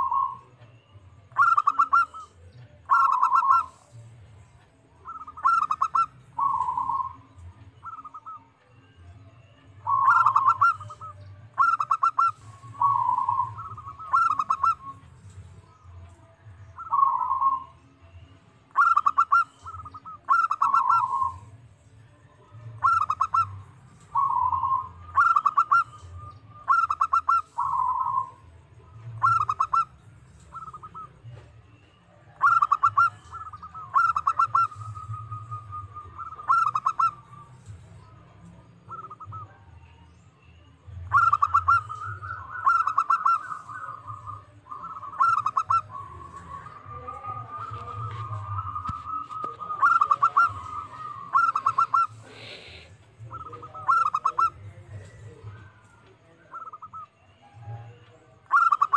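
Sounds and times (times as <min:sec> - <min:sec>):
dove cooing song: 0:00.0 - 0:58.9.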